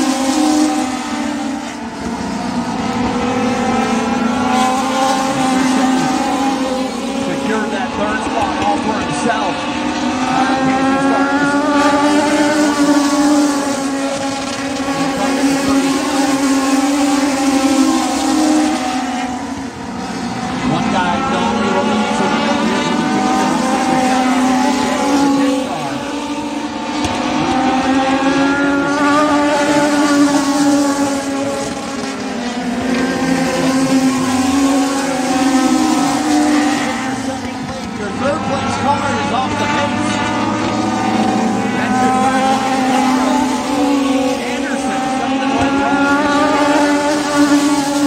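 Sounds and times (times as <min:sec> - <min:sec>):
race car engines droning: 0:00.0 - 0:48.0.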